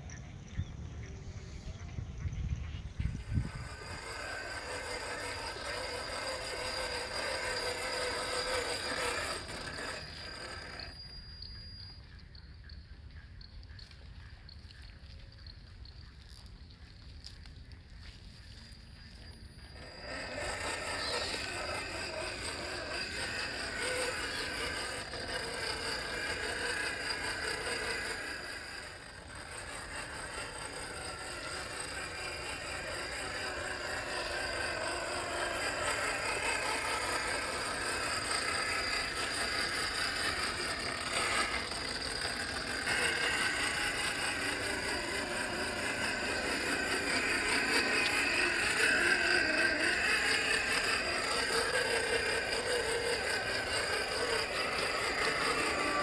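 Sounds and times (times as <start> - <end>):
toy car motor whirring and rattling: 3.0 - 12.1, 18.3 - 56.0.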